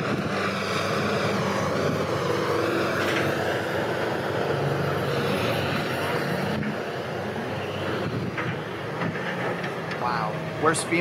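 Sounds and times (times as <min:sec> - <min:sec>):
low engine drone: 0:00.0 - 0:11.0
road hiss: 0:00.3 - 0:11.0.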